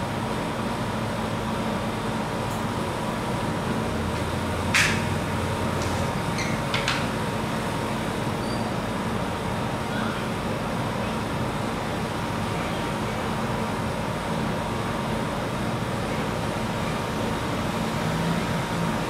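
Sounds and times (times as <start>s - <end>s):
refrigeration unit humming: 0.0s - 19.0s.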